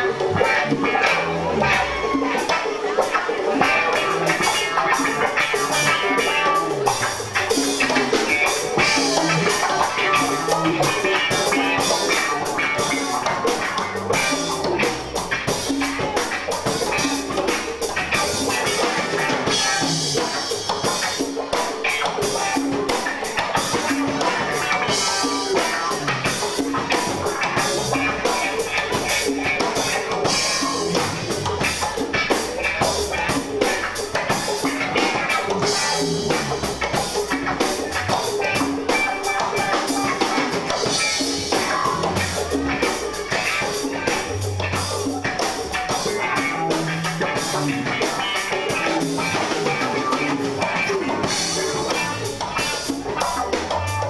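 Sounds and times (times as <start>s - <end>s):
drum kit beat: 0.0s - 54.0s
electric bass: 0.0s - 54.0s
electric guitar: 0.0s - 54.0s.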